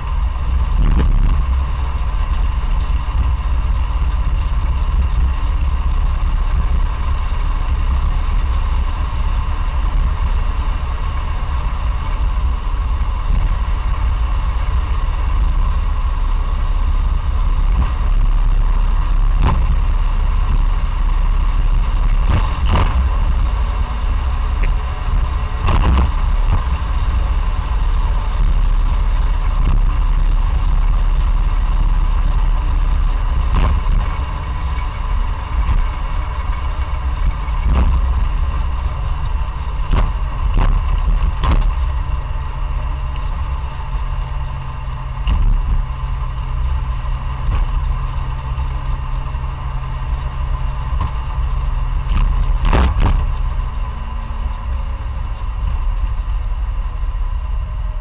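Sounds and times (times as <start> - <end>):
road noise: 0.0 - 58.0
small car engine running: 0.0 - 58.0.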